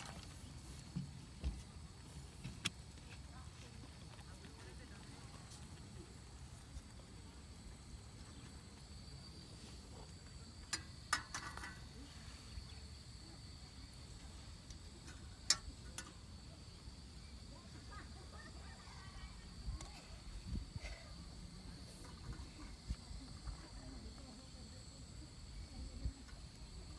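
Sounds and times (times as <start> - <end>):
insects trilling: 0.2 - 26.9.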